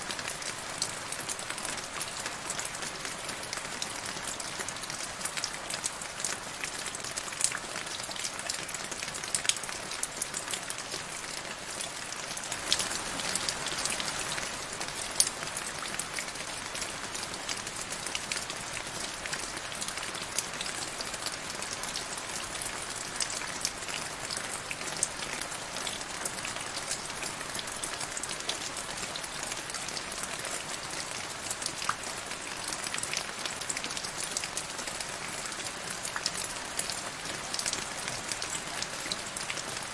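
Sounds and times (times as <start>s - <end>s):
rain falling into a puddle: 0.0s - 39.9s.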